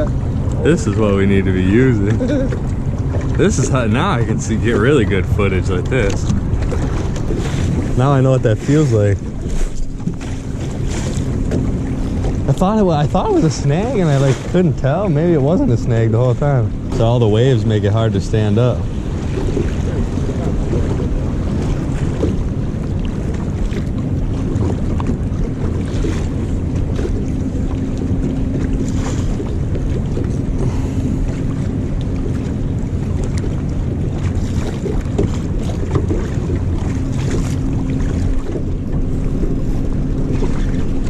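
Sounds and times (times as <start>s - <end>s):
faint hum: 0.0s - 41.0s
water lapping at boat: 0.0s - 41.0s
wind on microphone: 0.0s - 41.0s.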